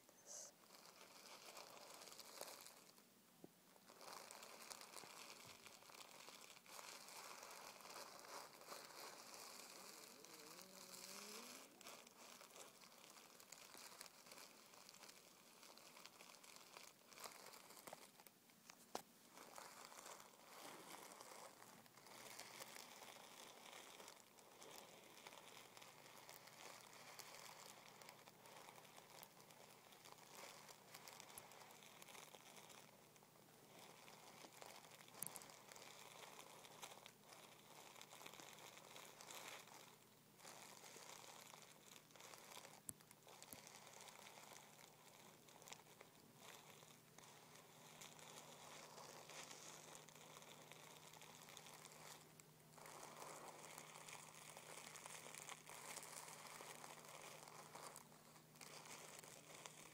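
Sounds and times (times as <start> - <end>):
fingertips crinkling tissue paper: 0.0 - 3.1, 3.7 - 59.9.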